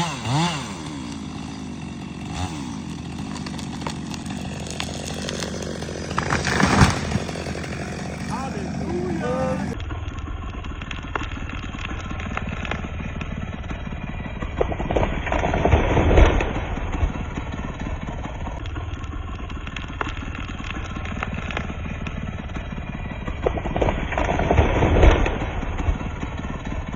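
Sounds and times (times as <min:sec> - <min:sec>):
chainsaw idling and revving: 0:00.0 - 0:26.9.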